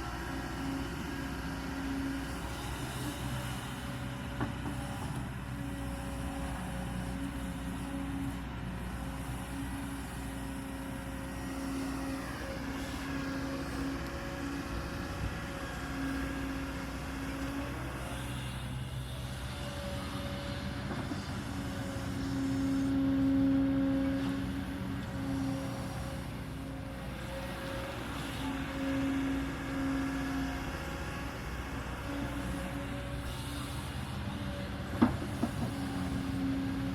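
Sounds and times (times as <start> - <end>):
excavator diesel engine droning: 0.0 - 36.9.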